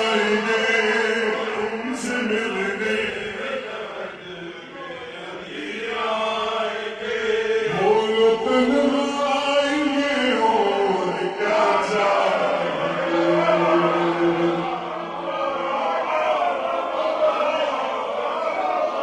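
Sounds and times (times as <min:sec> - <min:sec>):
man chanting with reverb: 0:00.0 - 0:17.2.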